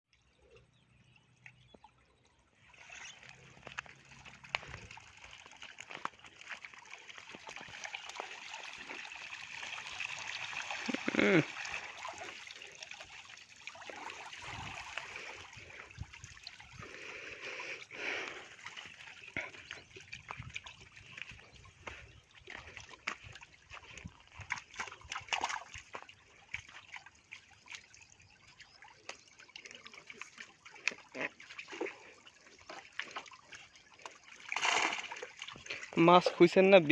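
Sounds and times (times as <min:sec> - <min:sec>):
water splashing and trickling: 0:00.1 - 0:36.9.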